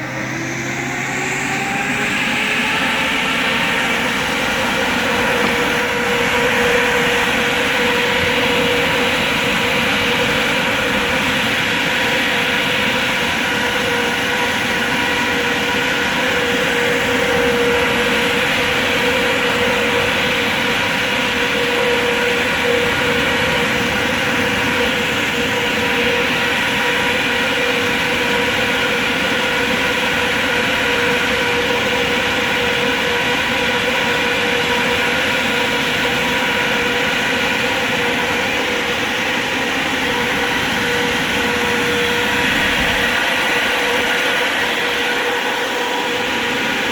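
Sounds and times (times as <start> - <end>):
electric fan running: 0.0 - 46.9.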